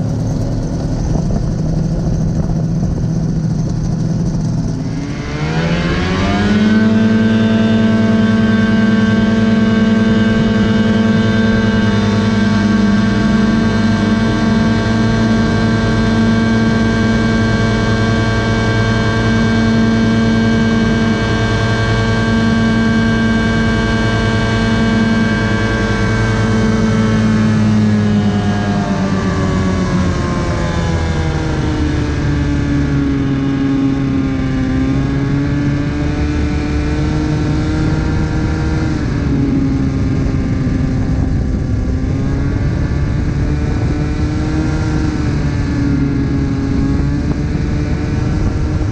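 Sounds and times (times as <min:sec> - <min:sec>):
aircraft engine running: 0:00.0 - 0:48.9.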